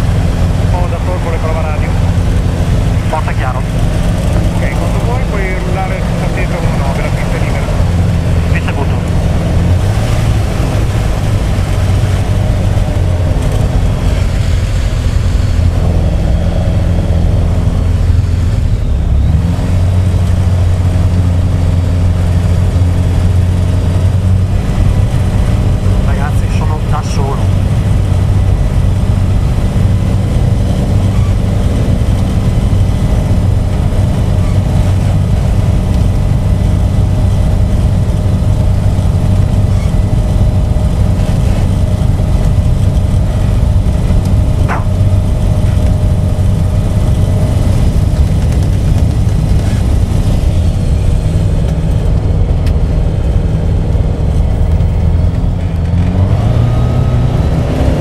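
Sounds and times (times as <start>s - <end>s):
propeller aircraft engine running: 0.0s - 58.0s.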